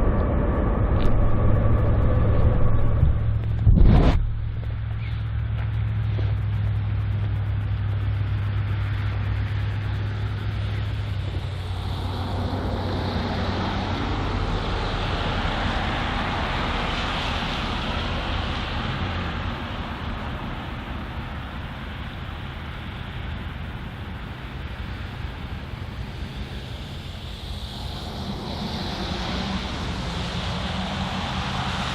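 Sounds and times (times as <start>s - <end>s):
diesel locomotive engine hum: 0.0s - 31.9s.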